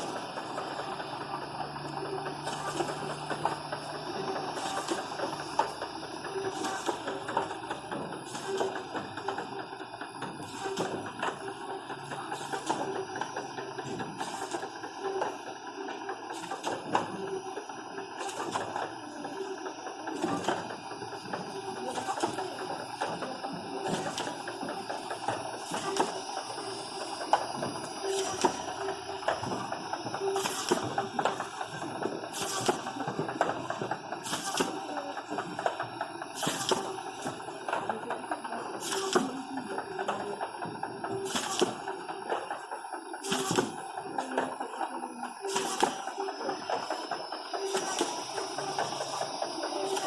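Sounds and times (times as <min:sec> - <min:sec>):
machine clatter: 0:00.0 - 0:50.0.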